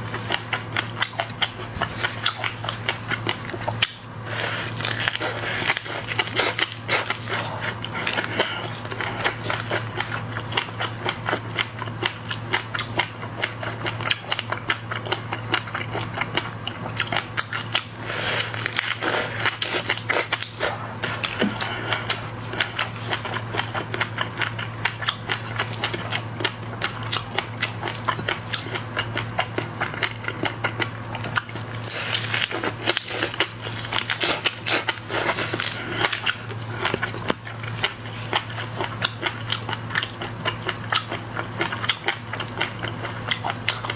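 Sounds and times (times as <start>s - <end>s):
crunching and chewing seafood: 0.0s - 43.9s
steady low hum: 0.0s - 43.9s.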